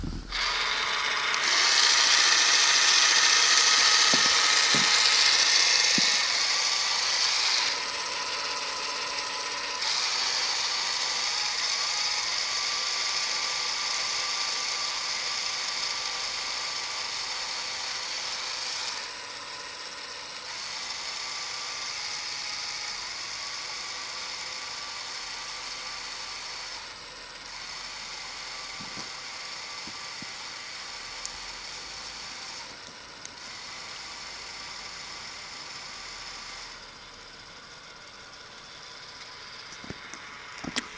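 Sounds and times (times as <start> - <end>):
electric motors and gears whirring: 0.0 - 40.9.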